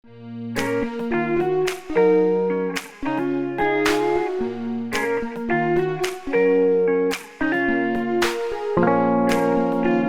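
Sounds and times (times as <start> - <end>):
plucked guitar melody: 0.6 - 10.0.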